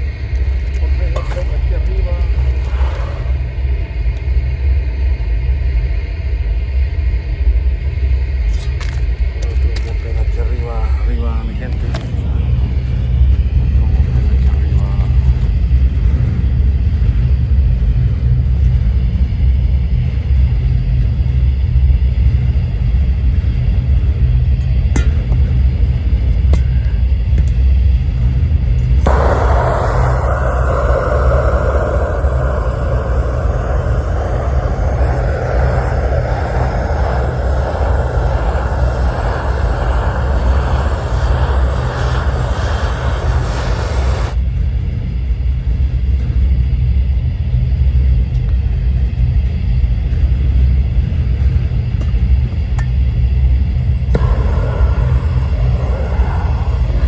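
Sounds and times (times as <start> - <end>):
roofing torch burning: 0.0 - 57.0.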